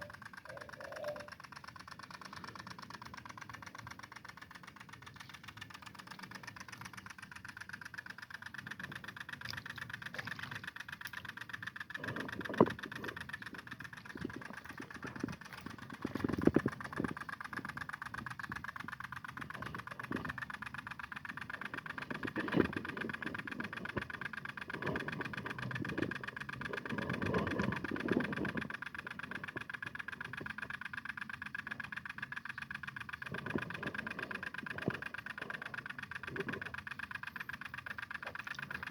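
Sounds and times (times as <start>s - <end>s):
mini tiller engine running: 0.0s - 38.9s.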